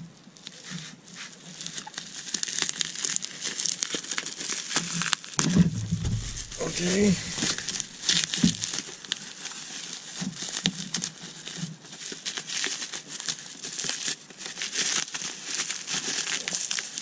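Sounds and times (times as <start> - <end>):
bubble wrap crinkling: 0.4 - 5.3, 6.1 - 17.0.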